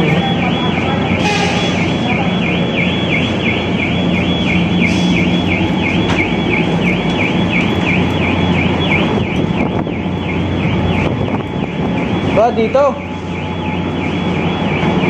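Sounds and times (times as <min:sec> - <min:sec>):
ship machinery drone: 0:00.0 - 0:15.0
warbling electronic alarm: 0:00.0 - 0:15.0.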